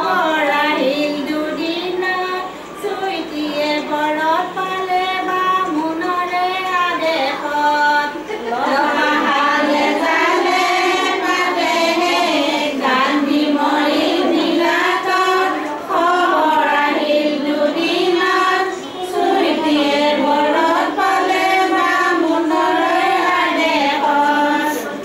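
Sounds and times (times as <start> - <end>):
women singing together: 0.0 - 25.0.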